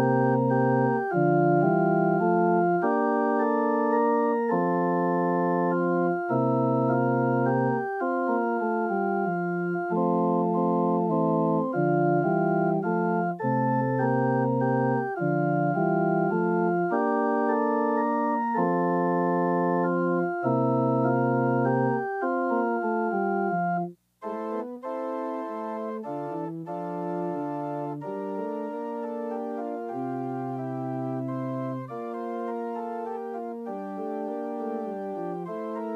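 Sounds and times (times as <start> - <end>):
church organ chords: 0.0 - 35.9.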